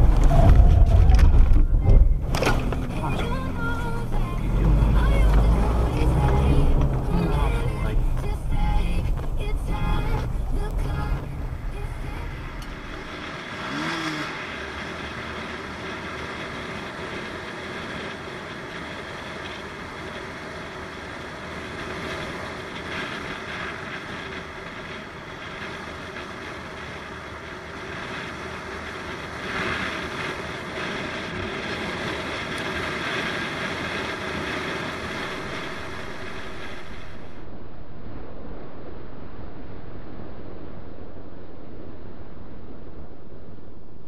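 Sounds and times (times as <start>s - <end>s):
motorcycle engine running: 0.0s - 36.3s
wind rushing over microphone: 0.0s - 44.0s.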